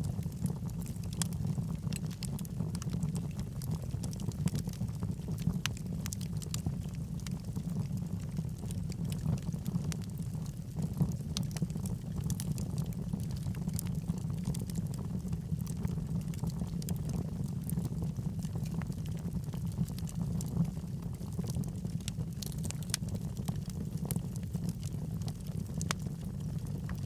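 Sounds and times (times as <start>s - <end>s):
fire rumbling: 0.0s - 27.0s
wood crackling and popping: 0.0s - 27.0s.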